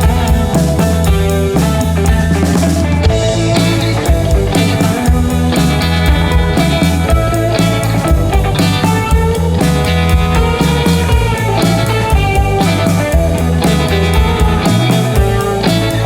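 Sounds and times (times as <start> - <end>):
rock music with guitar and drums: 0.0 - 16.0.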